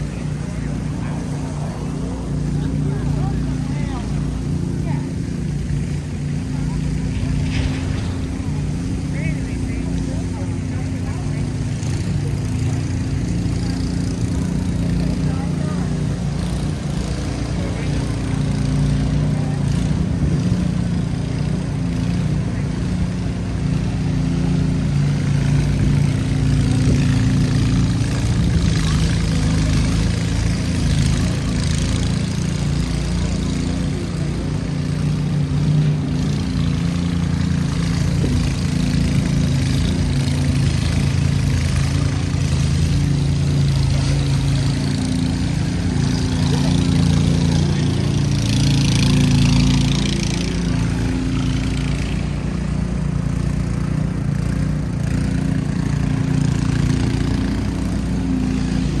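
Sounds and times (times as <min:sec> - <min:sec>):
hissing rush: 0:00.0 - 0:55.0
engine idling: 0:00.0 - 0:59.0.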